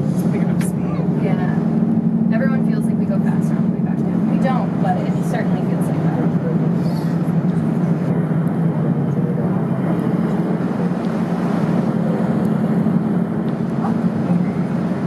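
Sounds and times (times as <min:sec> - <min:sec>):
cable car cabin hum: 0:00.0 - 0:15.0.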